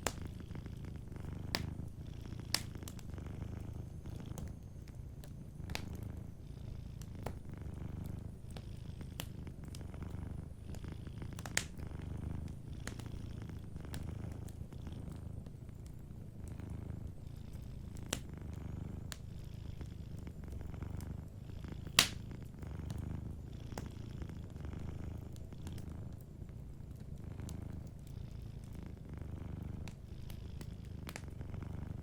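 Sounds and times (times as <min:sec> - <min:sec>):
cat purring: 0:00.0 - 0:32.0
wood fire crackling: 0:00.0 - 0:32.0.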